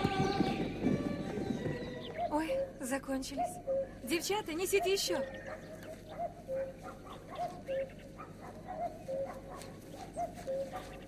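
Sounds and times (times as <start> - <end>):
cuckoo calling: 0.0 - 11.0.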